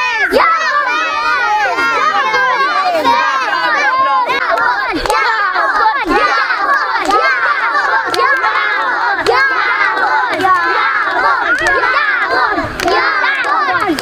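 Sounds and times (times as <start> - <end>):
children shouting and cheering: 0.0 - 14.0.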